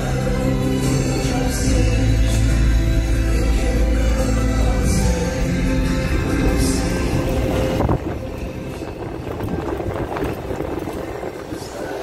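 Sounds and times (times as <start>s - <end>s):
music: 0.0s - 12.0s
vehicle rumbling over rough road: 0.0s - 12.0s.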